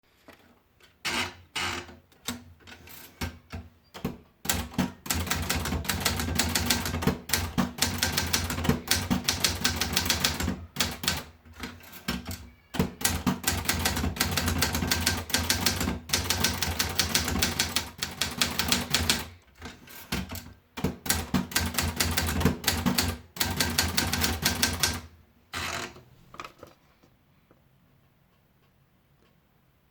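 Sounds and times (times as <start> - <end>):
manual typewriter typing: 1.1 - 25.9.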